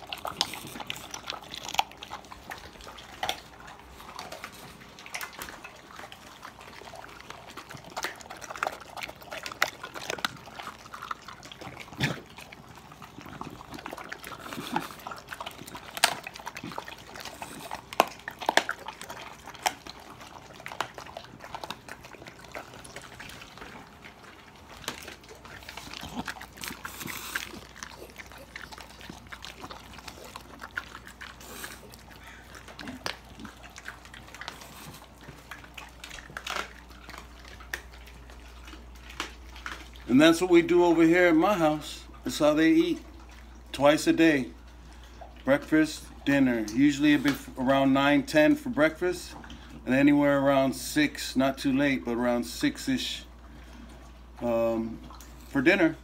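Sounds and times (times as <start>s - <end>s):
dogs chewing and licking: 0.0s - 56.0s.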